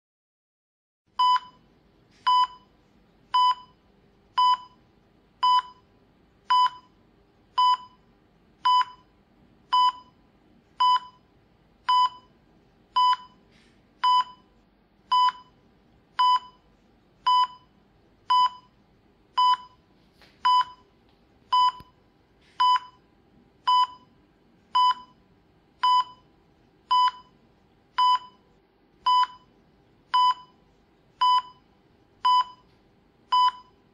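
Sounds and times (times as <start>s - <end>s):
faint room hum: 1.1s - 33.9s
patient monitor pulse beeps: 1.2s - 10.2s, 10.8s - 15.6s, 16.2s - 20.9s, 21.5s - 22.0s, 22.6s - 25.2s, 25.8s - 32.7s, 33.3s - 33.8s.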